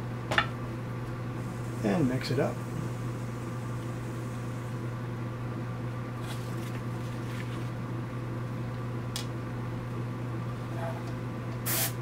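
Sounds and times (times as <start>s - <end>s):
air compressor humming: 1.2s - 12.0s.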